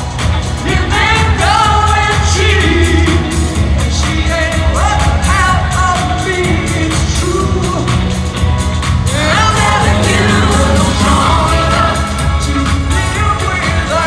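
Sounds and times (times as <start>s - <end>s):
live pop music: 0.0s - 14.0s
lead singer singing: 0.4s - 8.4s, 9.0s - 14.0s.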